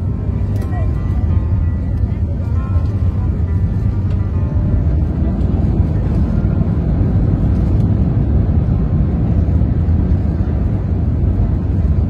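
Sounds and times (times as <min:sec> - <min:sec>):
airliner rumbling down runway: 0:00.0 - 0:12.0.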